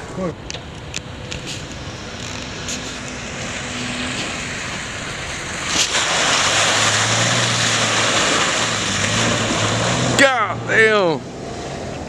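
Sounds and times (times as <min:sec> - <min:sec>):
car engine running: 0:00.0 - 0:12.0
tyres splashing through mud: 0:01.4 - 0:12.0.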